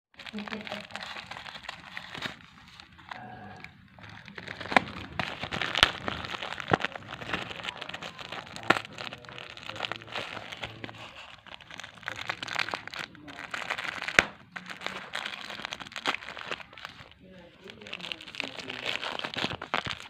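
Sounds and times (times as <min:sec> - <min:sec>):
plastic packaging crinkling: 0:00.2 - 0:20.0.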